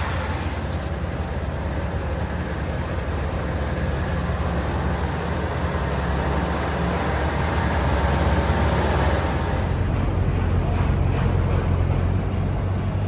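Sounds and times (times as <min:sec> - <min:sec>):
large vehicle engine rumble: 0:00.0 - 0:13.0.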